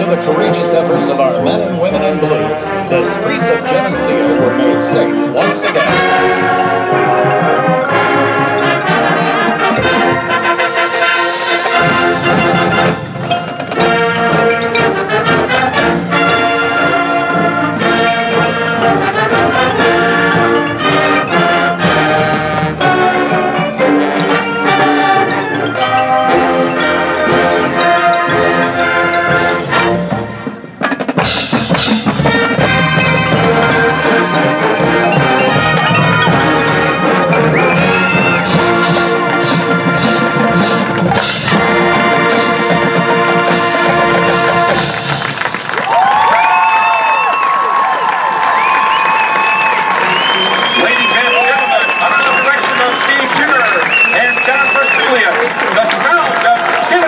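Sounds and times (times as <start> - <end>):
marching band brass: 0.0 - 57.0
marching band percussion: 0.0 - 57.0.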